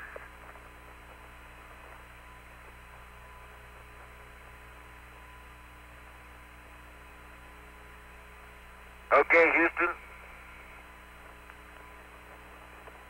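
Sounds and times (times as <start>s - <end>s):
radio channel hum and hiss: 0.0s - 13.0s
thin steady whine: 0.0s - 13.0s.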